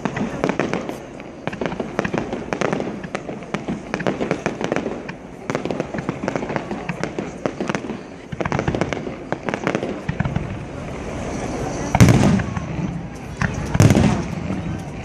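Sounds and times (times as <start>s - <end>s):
fireworks cracks and bangs: 0.0s - 15.0s.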